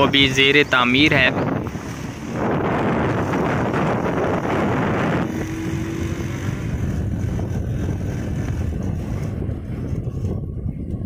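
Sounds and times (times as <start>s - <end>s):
motorbike engine rumble: 0.0s - 11.0s
wind rushing over microphone: 0.0s - 11.0s.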